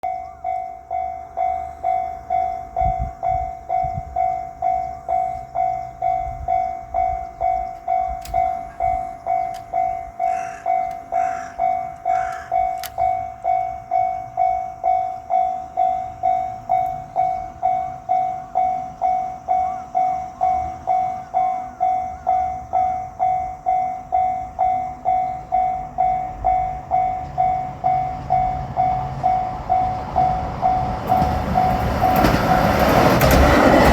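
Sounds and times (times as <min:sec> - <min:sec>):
diesel train rumble: 0:00.0 - 0:33.9
railroad crossing bell ringing: 0:00.0 - 0:33.9.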